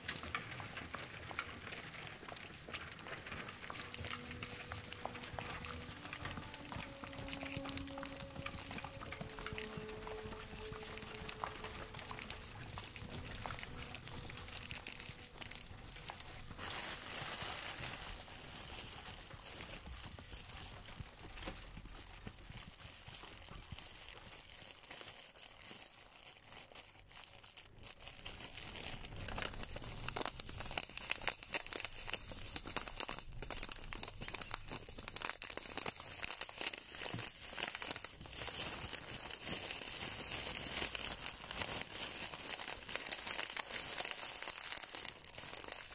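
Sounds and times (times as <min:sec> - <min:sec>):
crinkling and crackling: 0:00.0 - 0:45.9.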